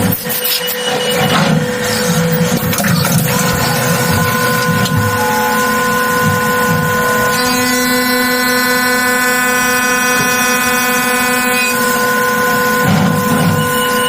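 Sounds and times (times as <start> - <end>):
cutter ringing whine: 0.0 - 14.0
milling machine whine: 0.0 - 14.0.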